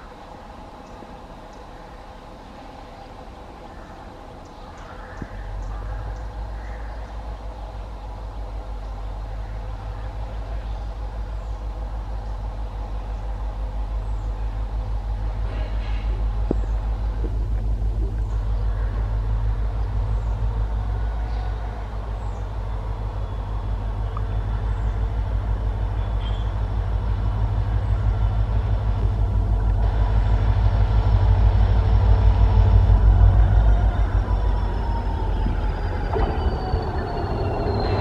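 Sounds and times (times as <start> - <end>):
diesel locomotive engine throbbing: 0.0 - 38.0.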